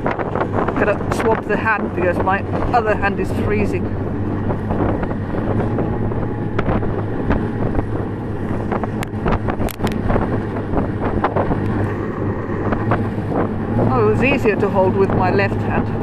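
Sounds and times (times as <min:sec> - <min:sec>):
snowmobile engine running: 0:00.0 - 0:16.0
wind buffeting microphone: 0:00.0 - 0:16.0.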